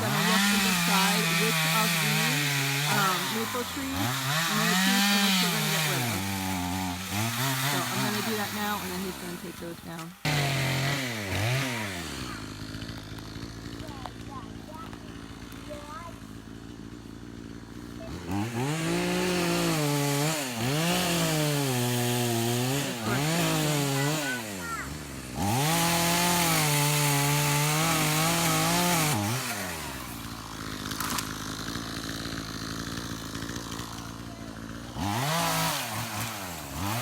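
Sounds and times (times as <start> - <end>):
chainsaw cutting wood: 0.0 - 37.0
chainsaw idling: 0.0 - 37.0.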